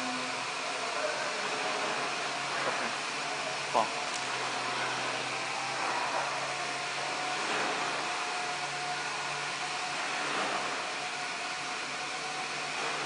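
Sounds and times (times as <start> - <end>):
printing machine whirring: 0.0 - 13.0.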